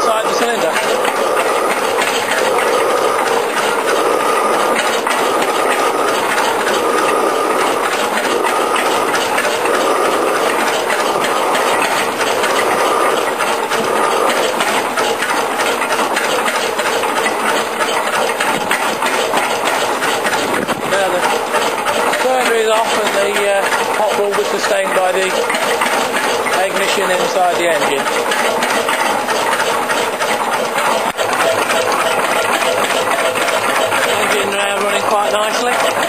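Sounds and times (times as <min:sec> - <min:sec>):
engine clattering: 0:00.0 - 0:36.0.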